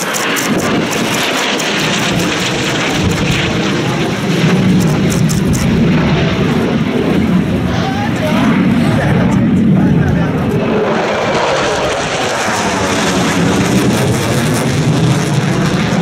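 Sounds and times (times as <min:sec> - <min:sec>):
jet engine rumble overhead: 0:00.0 - 0:16.0.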